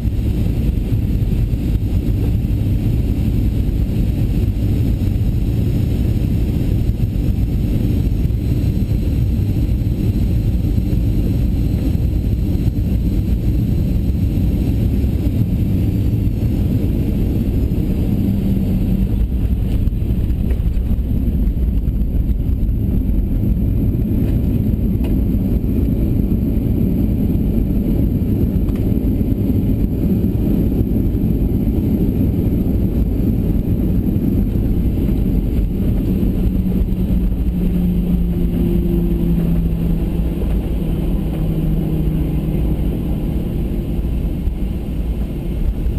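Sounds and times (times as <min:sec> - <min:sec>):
airflow noise: 0:00.0 - 0:45.9
airplane cabin engine rumble: 0:00.0 - 0:45.9.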